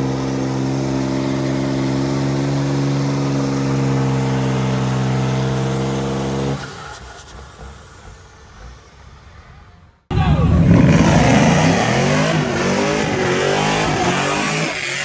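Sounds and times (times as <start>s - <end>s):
vehicle engine at high revs: 0.0s - 9.2s, 10.1s - 15.0s.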